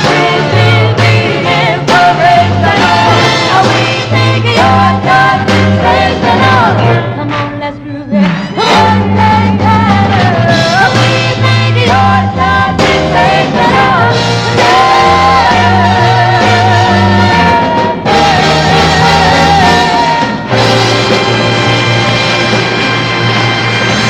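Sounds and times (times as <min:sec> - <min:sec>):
women singing: 0:00.0 - 0:20.5
pop band with bass line: 0:00.0 - 0:24.0.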